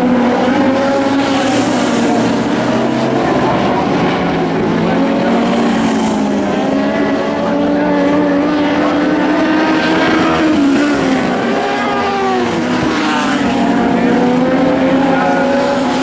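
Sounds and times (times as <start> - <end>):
race car engines circling track: 0.0 - 16.0.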